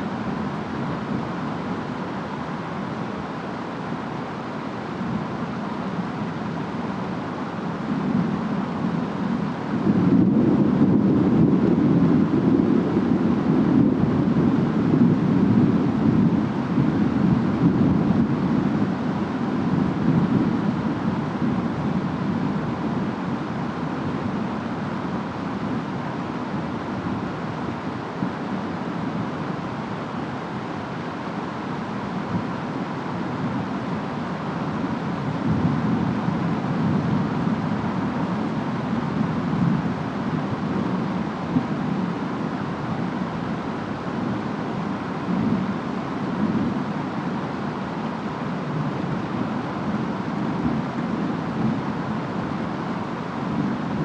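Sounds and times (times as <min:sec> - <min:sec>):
steady rain: 0:00.0 - 0:54.0
wind: 0:00.0 - 0:54.0.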